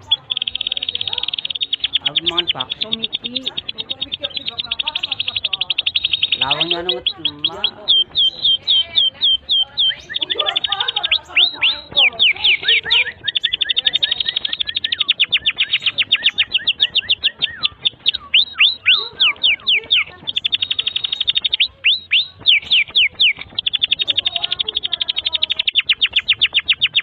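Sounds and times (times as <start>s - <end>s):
canary singing: 0.0s - 27.0s.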